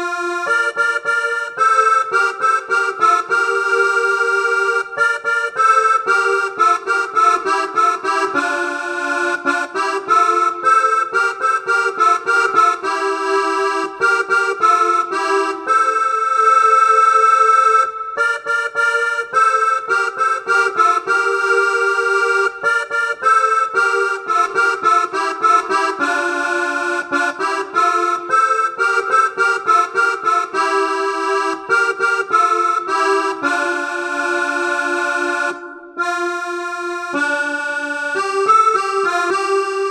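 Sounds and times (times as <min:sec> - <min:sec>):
keyboard accordion melody with chords: 0:00.0 - 0:39.9.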